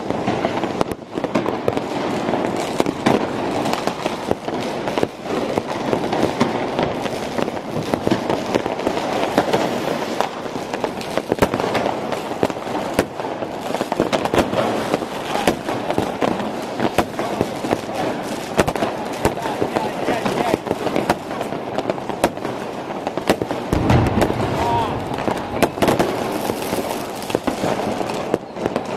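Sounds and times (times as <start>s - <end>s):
fireworks crackling: 0.0s - 28.9s
sharp firecracker bangs: 0.0s - 28.9s.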